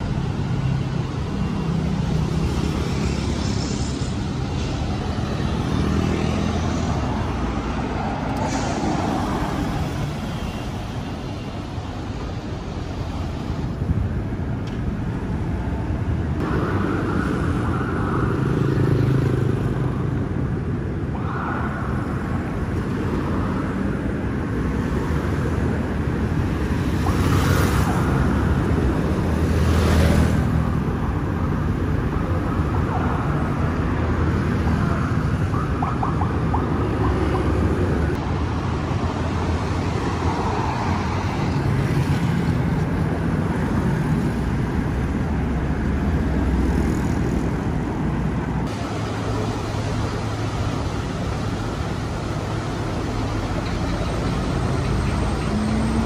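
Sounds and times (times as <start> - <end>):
cars passing close: 0.0 - 56.0
traffic rumble: 0.0 - 56.0.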